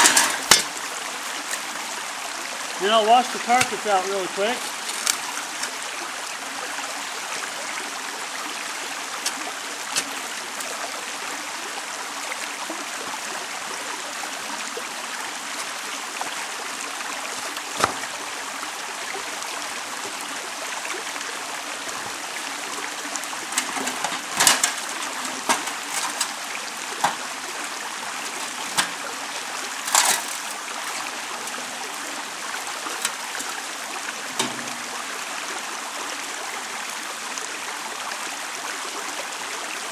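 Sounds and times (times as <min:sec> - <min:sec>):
water splashing and dripping: 0:00.0 - 0:37.0
creek water running: 0:00.0 - 0:39.9.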